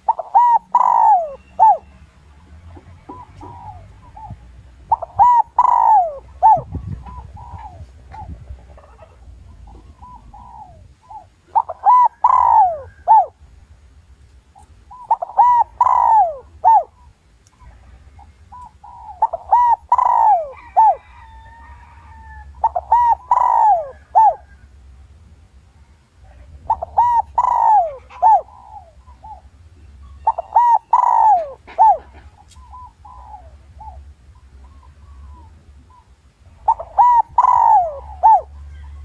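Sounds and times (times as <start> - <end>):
dove cooing: 0.0 - 13.9, 14.6 - 24.8, 25.8 - 39.0.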